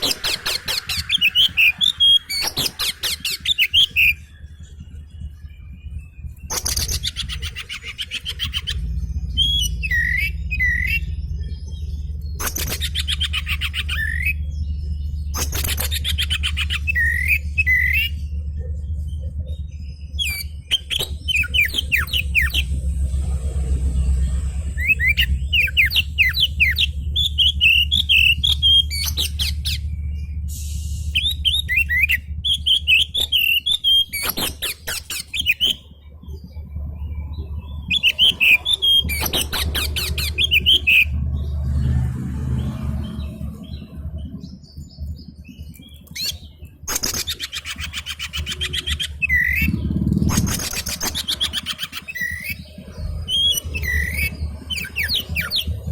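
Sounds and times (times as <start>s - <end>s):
magpie-robin singing: 0.0s - 22.8s, 24.7s - 30.5s, 31.1s - 41.6s, 43.1s - 55.9s
low steady hum: 0.0s - 55.9s.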